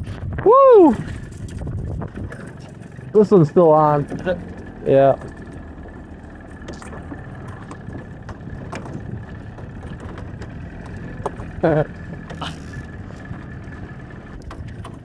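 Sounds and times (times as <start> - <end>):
boat motor running: 0.0 - 15.0
water noise: 0.0 - 15.0
wind: 0.0 - 15.0.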